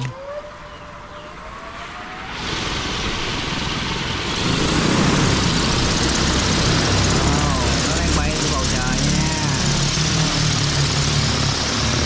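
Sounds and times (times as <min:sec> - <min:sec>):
drone motor whine: 0:00.0 - 0:12.0
propellers rushing: 0:01.0 - 0:12.0.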